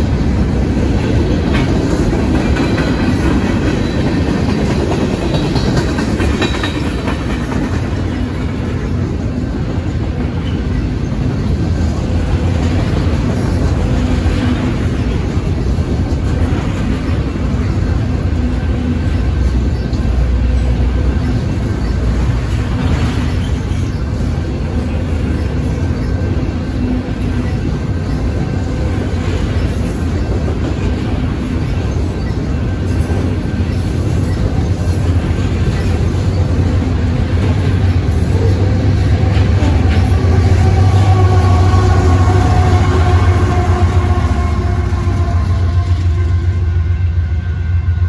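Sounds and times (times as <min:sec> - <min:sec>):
diesel locomotive engine hum: 0:00.0 - 0:48.0
train wheels rumbling on rails: 0:00.0 - 0:48.0.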